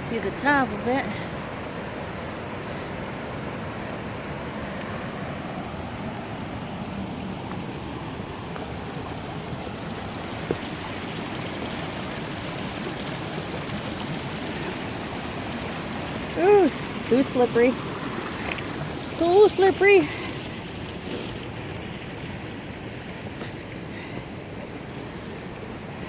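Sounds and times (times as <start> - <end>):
small waterfall over rocks: 0.0 - 26.0.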